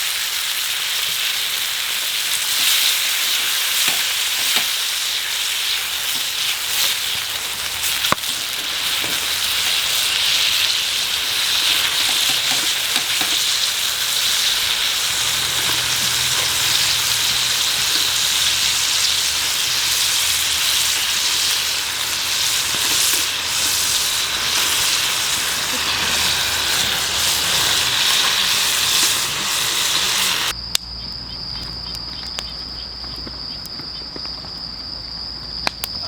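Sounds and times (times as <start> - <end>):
food sizzling in a pan: 0.0 - 30.5
insects chirring: 0.4 - 36.0.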